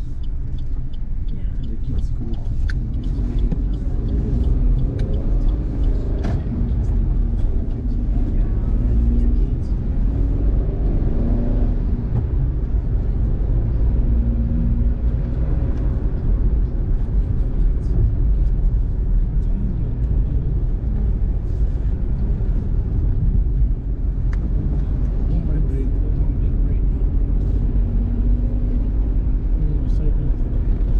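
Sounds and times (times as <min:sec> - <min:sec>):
car driving on wet road: 0:00.0 - 0:30.9.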